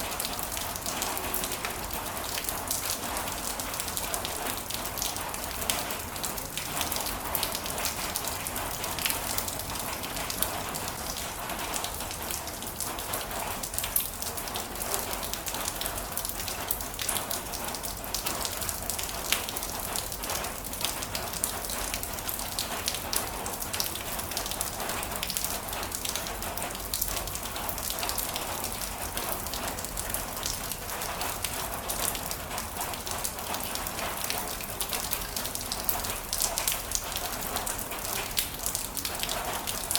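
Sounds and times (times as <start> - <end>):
heavy rain falling: 0.0 - 39.9
raindrops pattering: 0.0 - 39.9.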